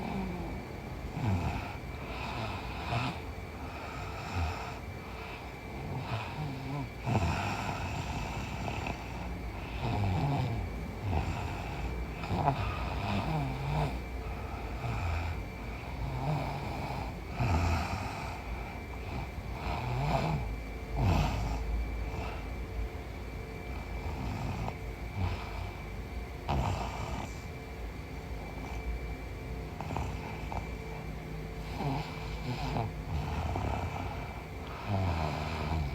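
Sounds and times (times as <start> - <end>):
woman snoring: 0.0 - 22.4, 23.7 - 25.8, 26.4 - 27.5, 29.7 - 35.9.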